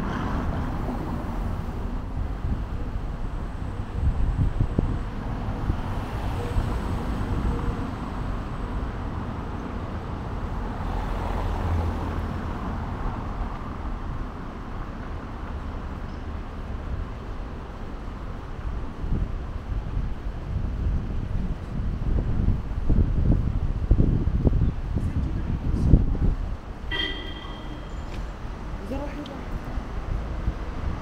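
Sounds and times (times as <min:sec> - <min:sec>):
hum of passing vehicles: 0:00.0 - 0:31.0.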